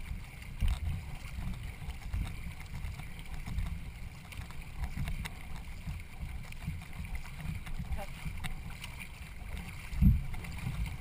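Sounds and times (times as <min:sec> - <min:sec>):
water noise from moving boat: 0:00.0 - 0:11.0
wind buffeting microphone: 0:00.0 - 0:11.0.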